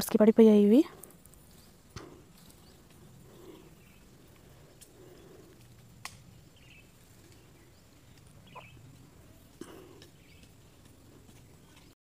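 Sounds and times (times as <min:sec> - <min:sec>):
distant bird chirps: 0:00.1 - 0:11.9.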